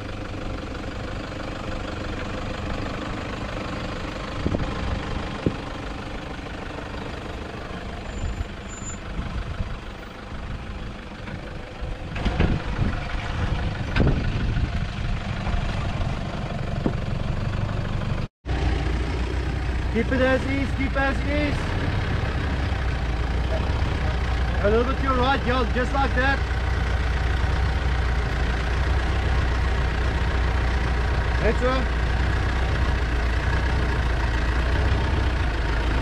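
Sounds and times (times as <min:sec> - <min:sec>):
diesel engine running at low revs: 0:00.0 - 0:36.0.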